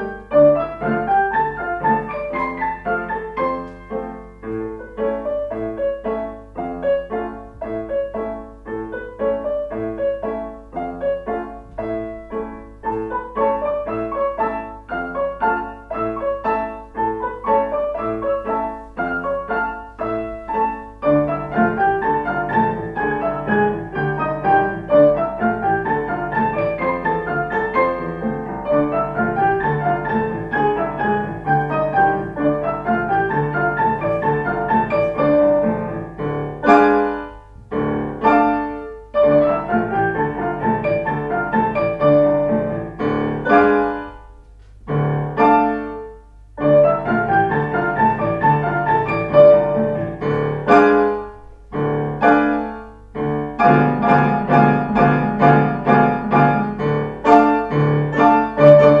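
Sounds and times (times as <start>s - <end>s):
piano playing lively piece: 0.0s - 59.0s.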